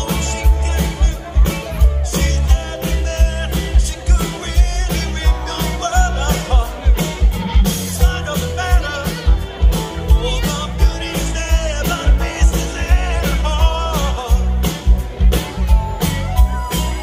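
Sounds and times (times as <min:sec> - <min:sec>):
live rock band playing: 0:00.0 - 0:17.0
man singing: 0:00.0 - 0:17.0.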